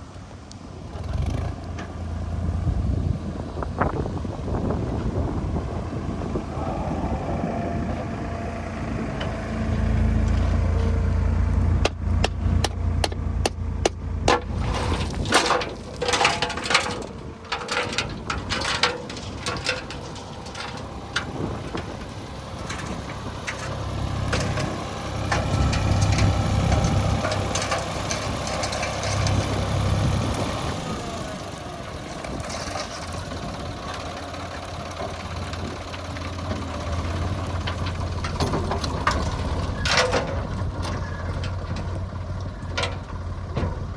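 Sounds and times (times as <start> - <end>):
heavy diesel engine running: 0.1 - 43.9.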